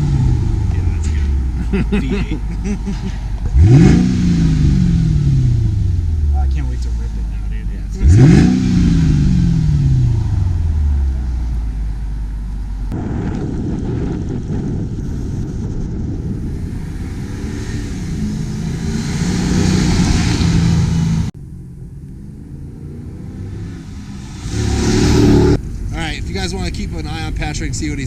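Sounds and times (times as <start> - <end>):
car accelerating: 0.0 - 13.0, 16.2 - 28.0
car engine revving: 0.0 - 13.0, 16.2 - 28.0.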